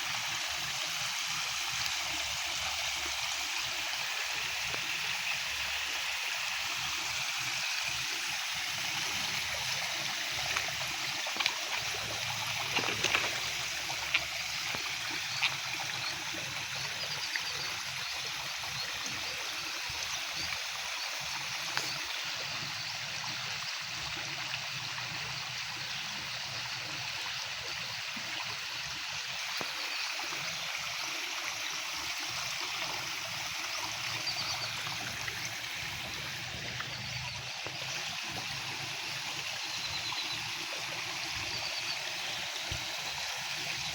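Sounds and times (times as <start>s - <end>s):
water trickling: 0.1s - 43.9s.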